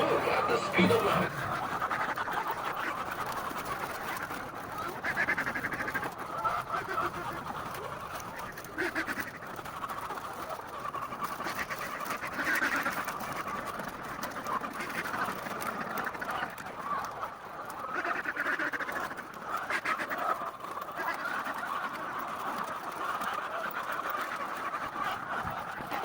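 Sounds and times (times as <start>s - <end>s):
hens clucking and squawking: 0.0s - 26.0s.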